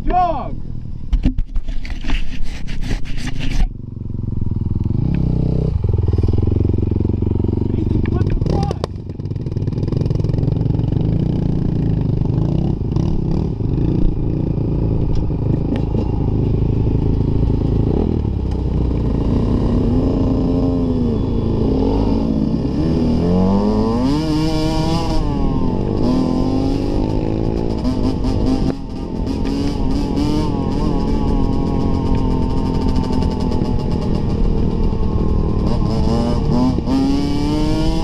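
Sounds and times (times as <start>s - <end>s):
dirt bike engine revving: 4.6s - 38.0s.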